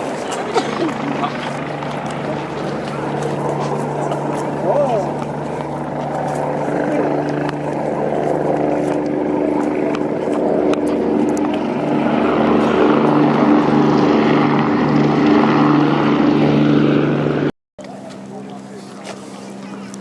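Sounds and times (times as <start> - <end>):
aircraft engine droning: 0.0 - 20.0.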